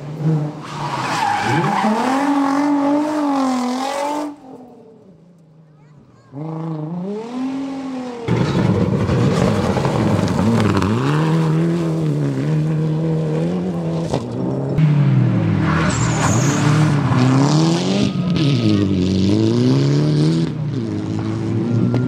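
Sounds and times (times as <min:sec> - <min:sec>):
rally car engines revving: 0:00.0 - 0:05.6, 0:06.2 - 0:22.0.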